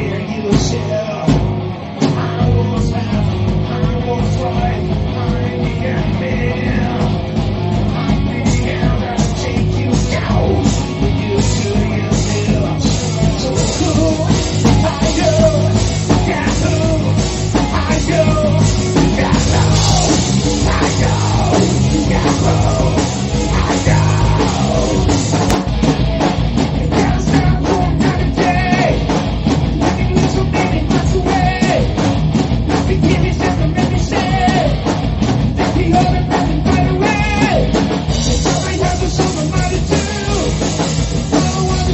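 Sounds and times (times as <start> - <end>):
rock band music: 0.0 - 41.9.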